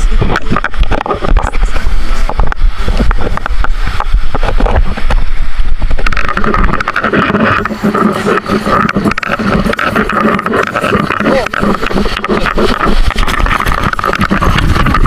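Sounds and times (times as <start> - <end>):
board scraping over rock: 0.0 - 15.0
rushing water: 0.0 - 15.0.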